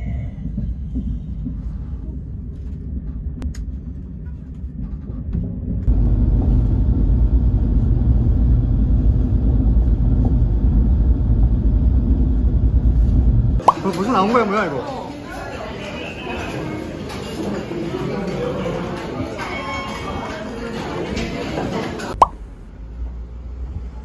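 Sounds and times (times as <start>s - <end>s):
train rumbling inside carriage: 0.0s - 13.6s, 15.9s - 24.0s.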